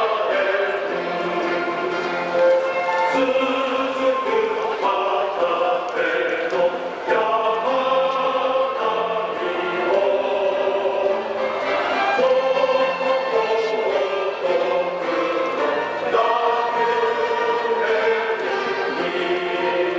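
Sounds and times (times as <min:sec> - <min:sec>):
choir singing slow song: 0:00.0 - 0:19.9
musical accompaniment: 0:00.0 - 0:19.9.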